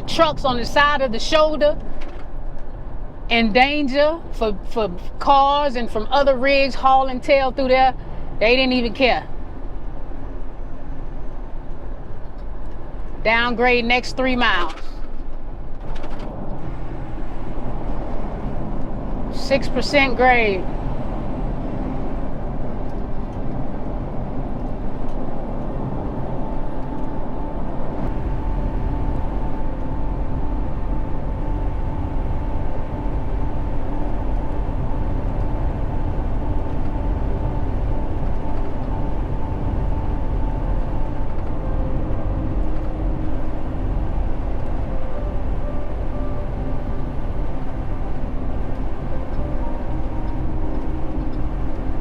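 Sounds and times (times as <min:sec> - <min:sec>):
thin steady whine: 0:00.0 - 0:52.0
truck diesel engine rumble: 0:00.0 - 0:52.0.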